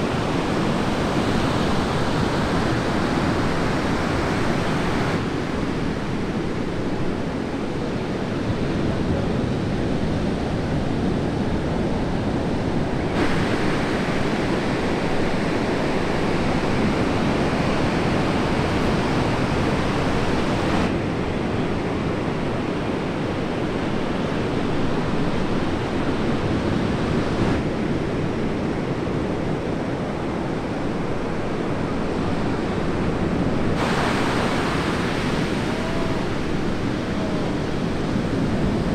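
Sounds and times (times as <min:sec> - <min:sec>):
ocean surf breaking: 0:00.0 - 0:38.9
wind on microphone: 0:00.0 - 0:38.9.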